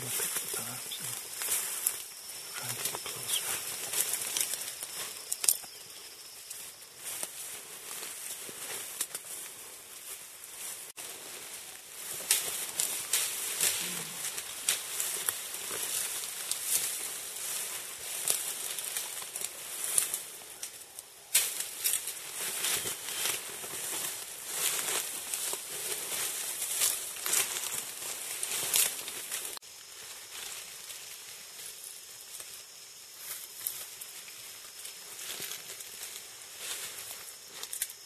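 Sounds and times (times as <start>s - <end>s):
steady high hiss: 0.0s - 38.0s
undergrowth rustling and crackling: 0.0s - 38.0s.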